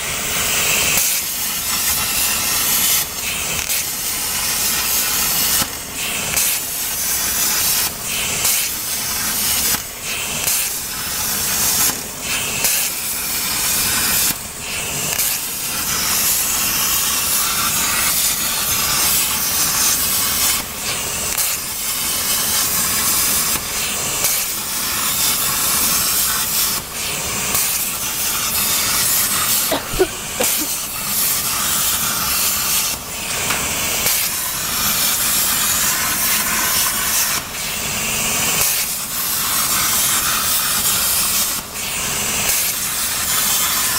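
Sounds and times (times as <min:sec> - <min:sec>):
plasma torch hissing: 0:00.1 - 0:43.9.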